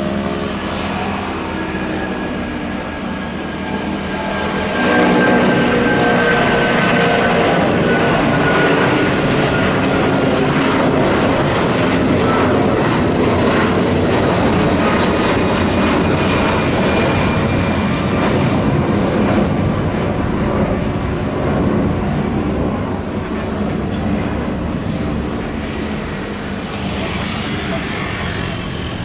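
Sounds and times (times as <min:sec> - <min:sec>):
jet engines roaring with whine: 0:00.0 - 0:29.0.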